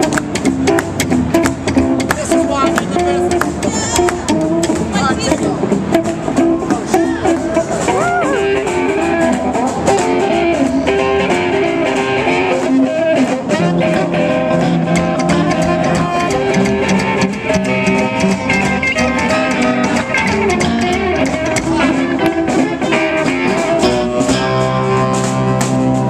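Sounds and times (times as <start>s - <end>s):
guitar-led band music: 0.0s - 26.0s.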